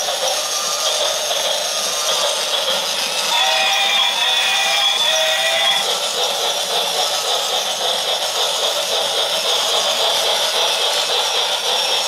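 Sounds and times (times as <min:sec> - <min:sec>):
toy train whirring and rattling: 0:00.0 - 0:12.0.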